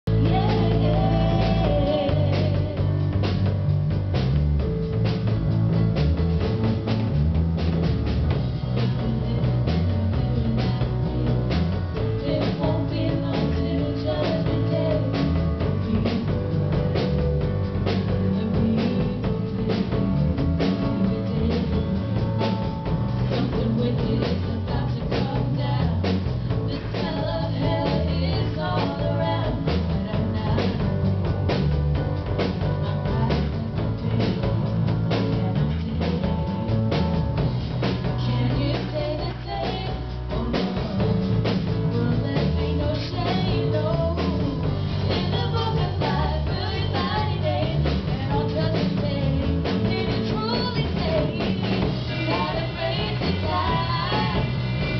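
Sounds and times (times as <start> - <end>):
bass guitar: 0.0 - 54.9
drum kit: 0.0 - 54.9
piano: 0.0 - 54.9
woman singing: 0.1 - 3.7, 8.6 - 54.9.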